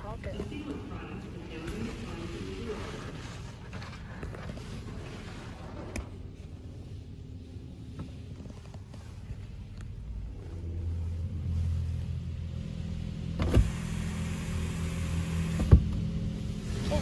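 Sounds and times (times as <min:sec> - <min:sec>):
car wash machine hum: 0:00.0 - 0:17.0.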